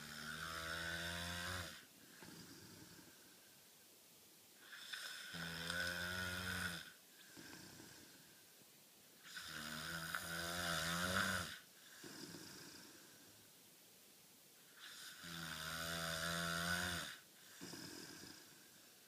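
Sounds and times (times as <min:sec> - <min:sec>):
buzzing snores: 0:00.0 - 0:03.4, 0:04.6 - 0:08.4, 0:09.2 - 0:13.4, 0:14.7 - 0:19.0
soft breaths: 0:00.0 - 0:15.3, 0:16.7 - 0:19.0.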